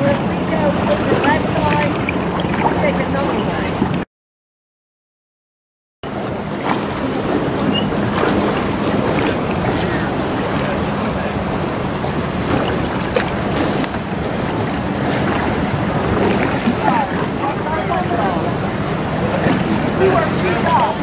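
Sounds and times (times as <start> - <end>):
wind on microphone: 0.0 - 4.0, 6.1 - 21.0.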